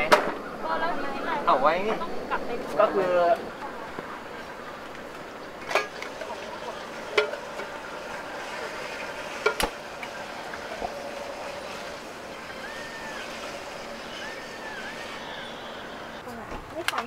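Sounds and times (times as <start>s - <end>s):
lantern burning hiss: 1.4s - 16.2s.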